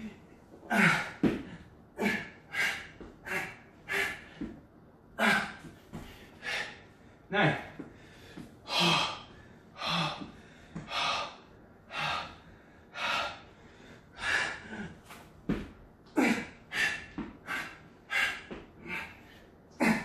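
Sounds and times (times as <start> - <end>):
man breathing hard: 0.0 - 20.0.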